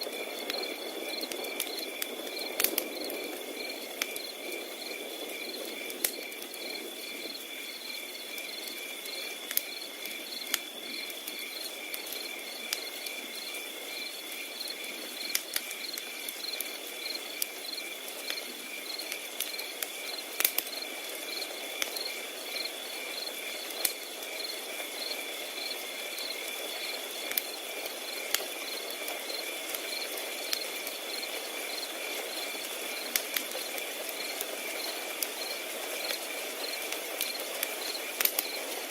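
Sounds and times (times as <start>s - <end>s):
crickets trilling and chirping: 0.0s - 38.9s
wood fire crackling and popping: 0.0s - 38.9s.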